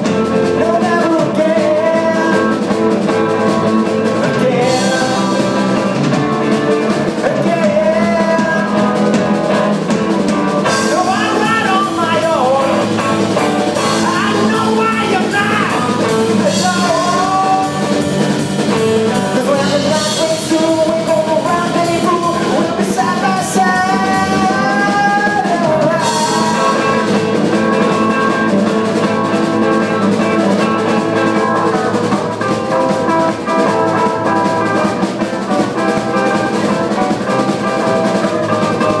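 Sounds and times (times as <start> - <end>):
man singing lead vocal: 0.0 - 39.0
rock band playing: 0.0 - 39.0.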